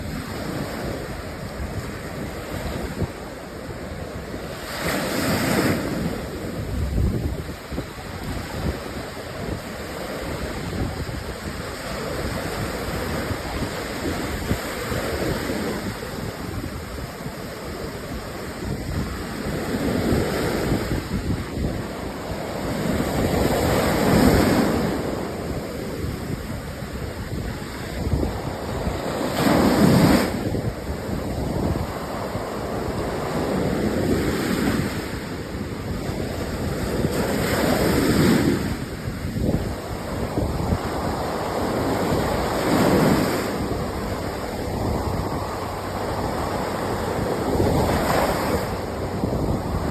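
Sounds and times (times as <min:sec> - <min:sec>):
ocean surf breaking on beach: 0:00.0 - 0:49.9
wind buffeting microphone: 0:00.0 - 0:49.9.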